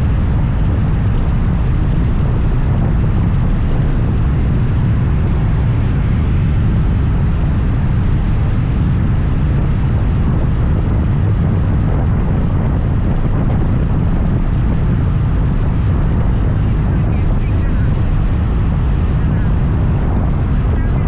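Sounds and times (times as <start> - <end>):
road noise: 0.0 - 21.0
wind noise on microphone: 0.0 - 21.0.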